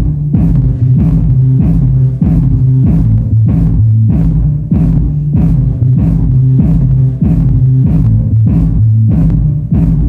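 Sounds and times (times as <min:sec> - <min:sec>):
deep bass notes: 0:00.0 - 0:10.0
steady drum beat: 0:00.0 - 0:10.0.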